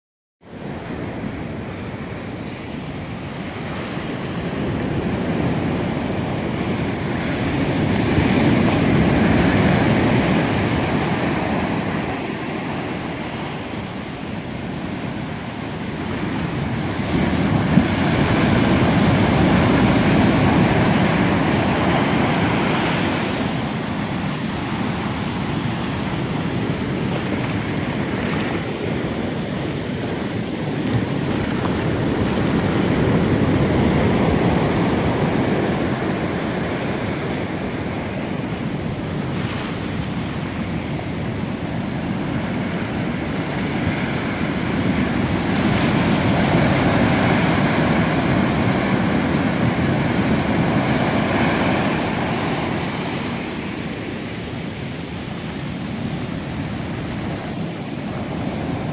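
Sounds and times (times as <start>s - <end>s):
waves breaking on sand: 0.5s - 58.9s.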